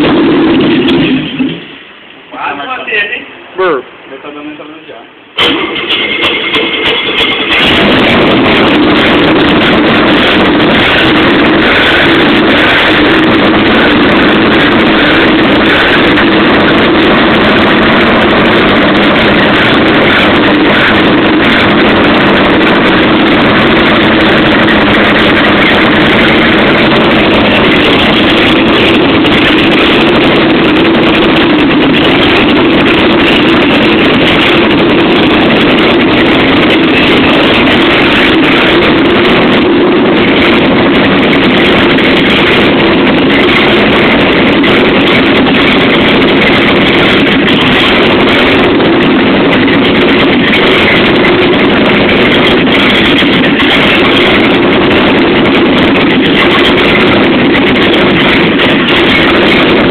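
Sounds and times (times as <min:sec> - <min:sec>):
unmuffled car engine running: 0:00.0 - 0:02.3, 0:05.3 - 0:59.9.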